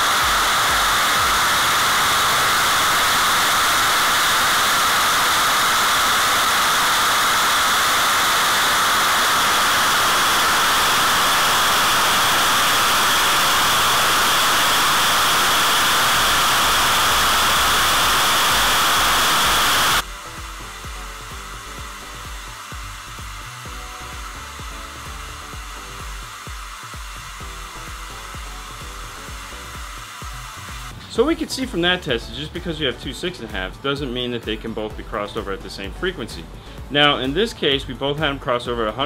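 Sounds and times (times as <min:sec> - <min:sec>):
noise test signal hiss: 0:00.0 - 0:31.9.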